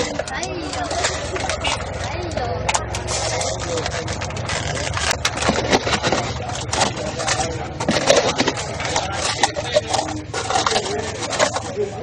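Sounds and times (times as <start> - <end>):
bowls and containers clattering: 0.0 - 12.0.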